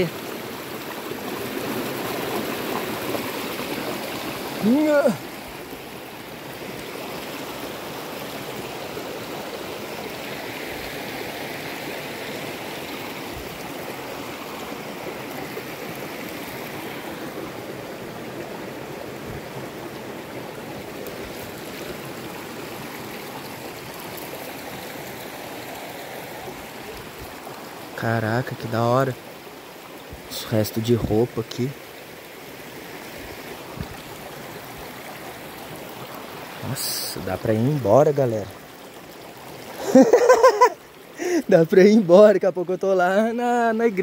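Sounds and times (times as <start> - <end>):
water running over rocks: 0.0 - 44.0.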